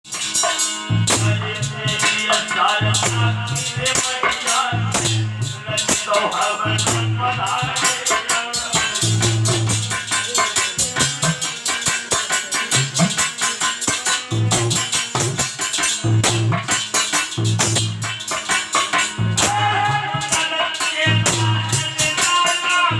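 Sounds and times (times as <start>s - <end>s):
drums: 0.0s - 22.9s
fast jingling rhythm: 0.0s - 22.9s.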